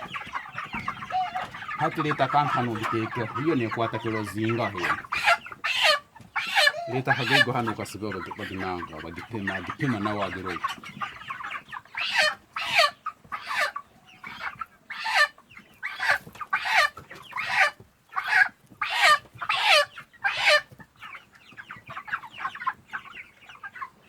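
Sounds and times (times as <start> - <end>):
chicken squawking loudly: 0.0 - 20.7
chicks chirping and clucking: 0.0 - 24.0.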